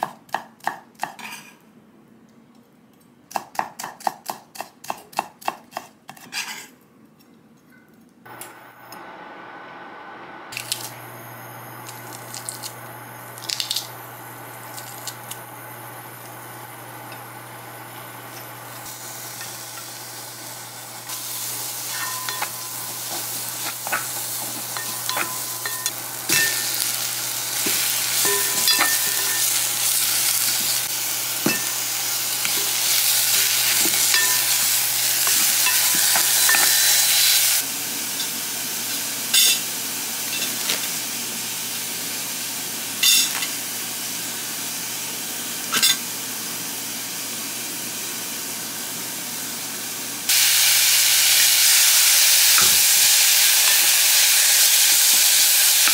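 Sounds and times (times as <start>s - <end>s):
food sizzling in oil: 8.6s - 49.7s, 50.3s - 55.9s.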